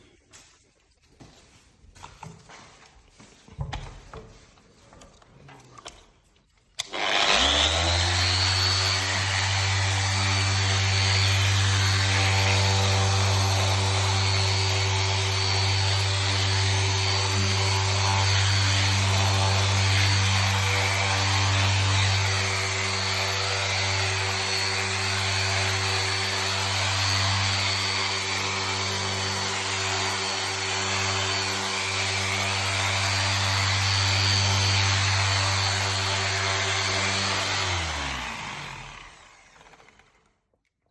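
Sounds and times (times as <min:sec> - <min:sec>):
floor machine motor humming: 0:06.8 - 0:40.1.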